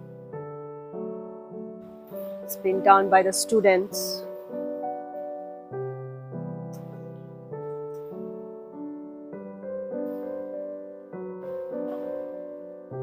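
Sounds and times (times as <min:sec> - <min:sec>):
soft slow piano chords: 0:00.0 - 0:13.0.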